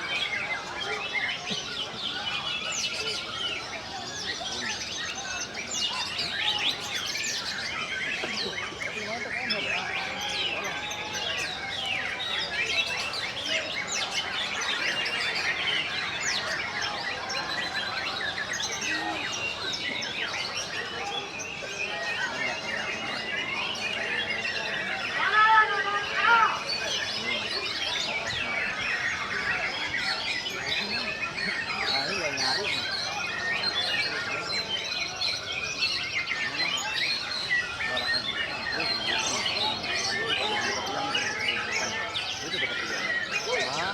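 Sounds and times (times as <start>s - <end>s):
caged songbirds singing: 0.0s - 43.9s.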